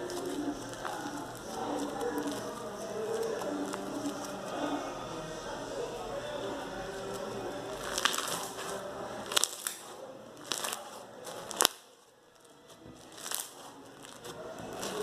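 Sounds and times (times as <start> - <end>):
foam slime crackling: 0.0 - 4.9, 6.9 - 15.0.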